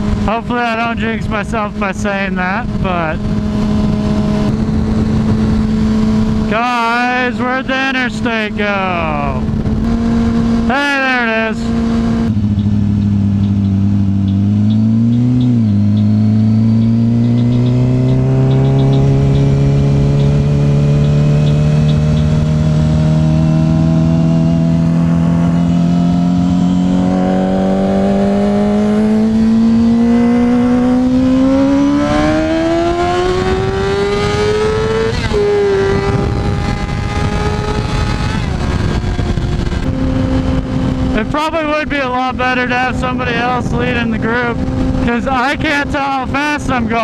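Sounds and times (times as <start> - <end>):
motorcycle engine accelerating: 0.0 - 47.0
wind noise: 0.0 - 47.0.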